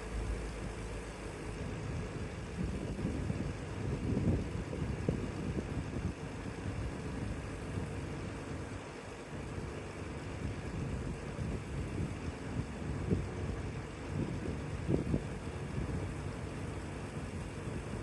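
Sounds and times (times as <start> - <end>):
pickup truck engine rumbling: 0.0 - 18.0.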